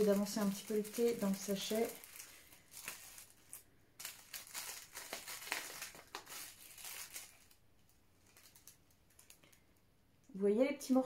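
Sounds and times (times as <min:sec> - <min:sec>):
tea sachet crinkling: 0:00.0 - 0:09.8.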